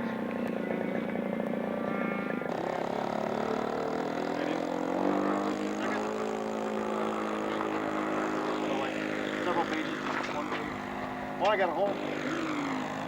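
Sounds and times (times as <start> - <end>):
model airplane engine running: 0.4 - 13.0.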